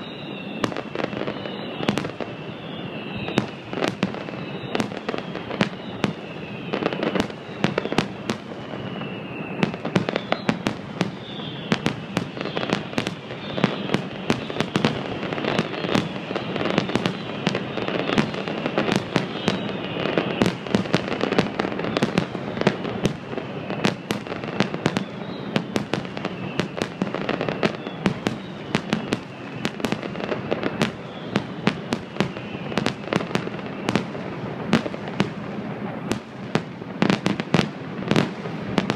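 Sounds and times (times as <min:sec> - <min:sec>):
firework whistle falling in pitch: 0:00.0 - 0:38.9
fireworks bursting: 0:00.0 - 0:38.9.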